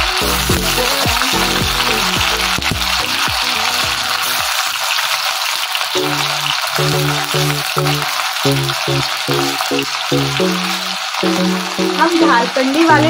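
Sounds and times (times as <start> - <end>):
background music: 0.0 - 4.5, 6.0 - 13.0
potatoes sizzling in hot oil: 0.0 - 13.0.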